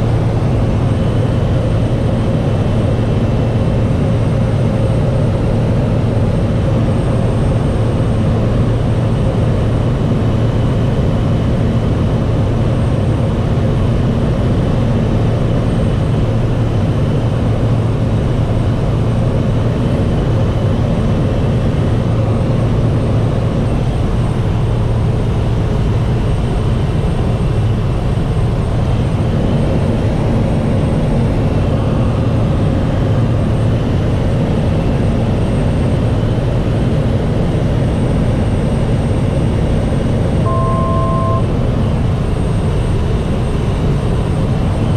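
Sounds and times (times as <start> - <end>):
light aircraft engine drone: 0.0 - 44.9.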